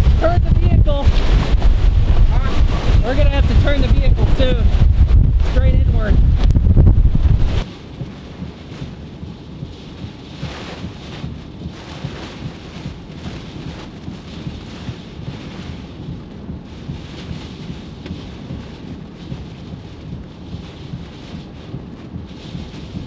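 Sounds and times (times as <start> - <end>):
driving rain: 0.0 - 23.0
heavy low rumble: 0.0 - 23.0
howling wind gusts: 0.0 - 23.0.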